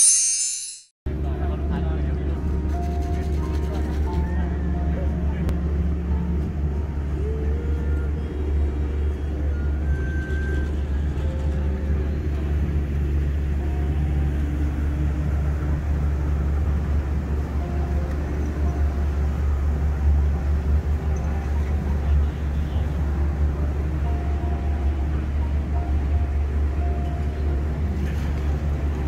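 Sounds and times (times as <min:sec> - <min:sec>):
boat engine rumble: 0:01.1 - 0:29.0.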